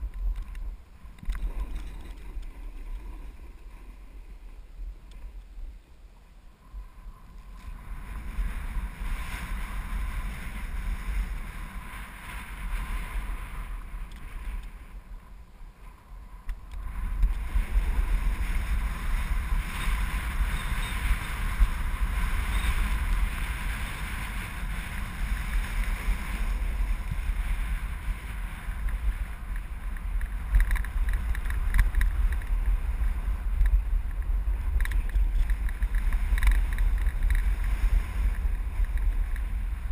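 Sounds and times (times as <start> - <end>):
snowboard scraping over snow: 0.0 - 4.7, 6.6 - 39.9
wind rumbling on microphone: 0.0 - 39.9.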